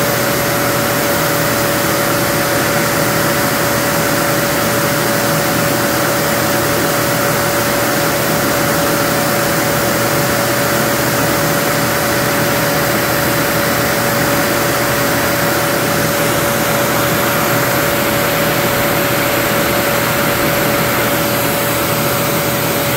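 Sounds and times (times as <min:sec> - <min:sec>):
machine running with whine: 0:00.0 - 0:22.9.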